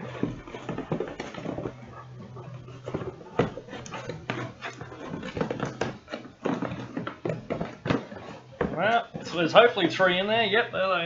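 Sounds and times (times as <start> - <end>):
cardboard flaps scraping: 0.0 - 10.4.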